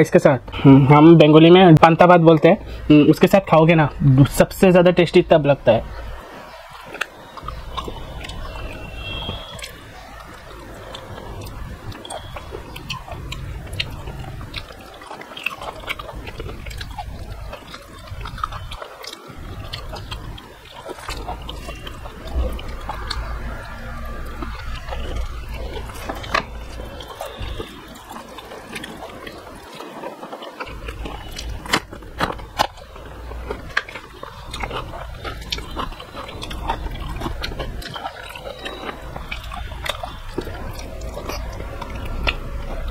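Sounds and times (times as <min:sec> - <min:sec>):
fingers mixing rice and curry: 0:01.9 - 0:42.9
chewing with mouth clicks: 0:05.9 - 0:42.9.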